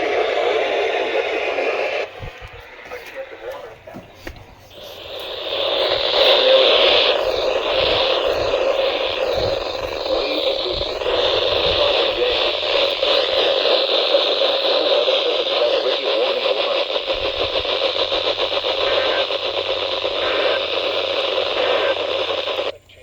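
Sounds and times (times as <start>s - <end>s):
radio static: 0.0s - 23.0s.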